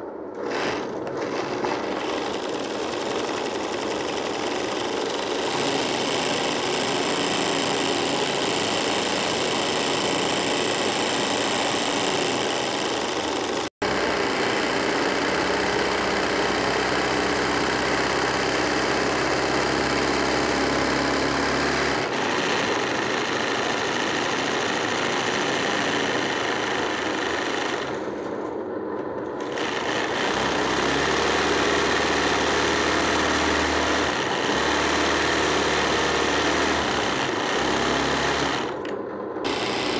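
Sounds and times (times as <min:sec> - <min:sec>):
sewing machine stitching: 0:00.3 - 0:39.9.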